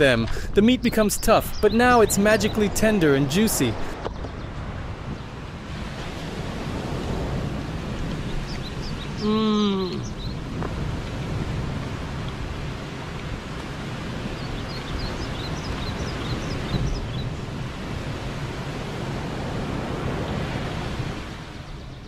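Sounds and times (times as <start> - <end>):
ocean surf: 0.0 - 22.0
wind noise: 0.0 - 22.0.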